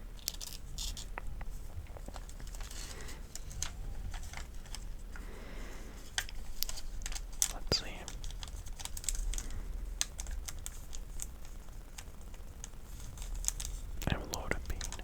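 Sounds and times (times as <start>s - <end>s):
paper sheets rustling: 0.2s - 13.9s.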